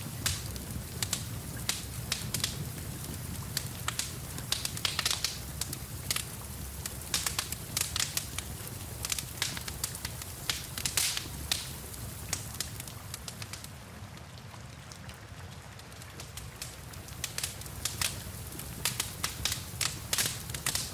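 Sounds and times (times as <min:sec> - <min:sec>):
wood fire crackling and popping: 0:00.0 - 0:14.4, 0:15.0 - 0:20.9
low rumble of flames: 0:00.0 - 0:14.8, 0:16.0 - 0:20.9
steady rain hiss: 0:00.0 - 0:20.9.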